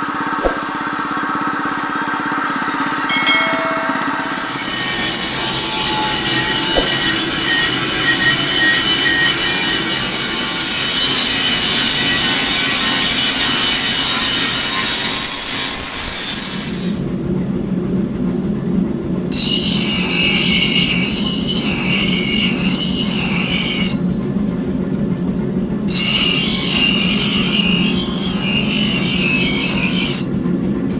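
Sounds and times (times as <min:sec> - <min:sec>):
power grinder scraping steel: 0:01.2 - 0:17.0, 0:19.4 - 0:24.2, 0:26.0 - 0:30.4.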